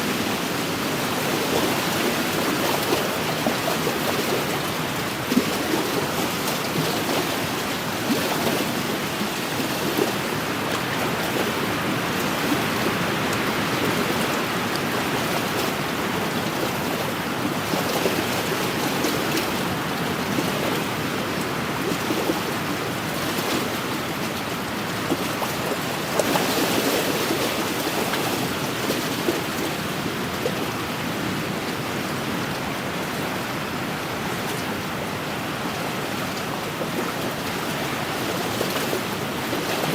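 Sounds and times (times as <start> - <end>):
small water splashes: 0.0 - 39.9
small waves lapping against shore: 0.0 - 39.9.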